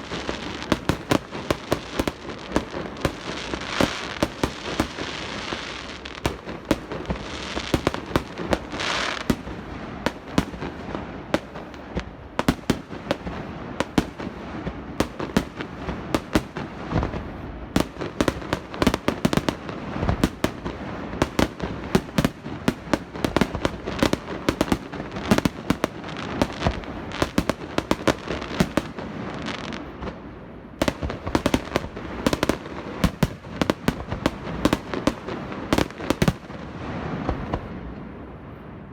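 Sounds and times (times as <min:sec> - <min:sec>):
fireworks bursts and bangs: 0:00.0 - 0:38.1
fireworks hissing and crackling: 0:00.0 - 0:38.5.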